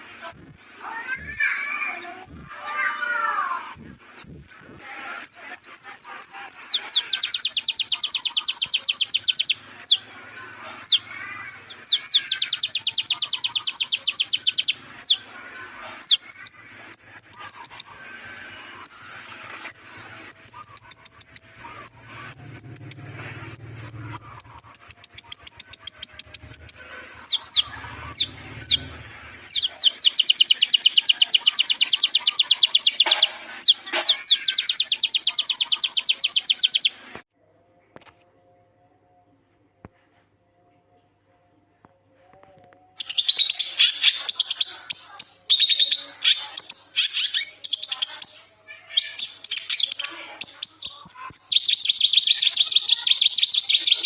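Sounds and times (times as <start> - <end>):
sunbird high-pitched song: 0.0 - 10.1, 10.9 - 15.3, 16.0 - 18.1, 18.8 - 37.2, 43.0 - 54.0.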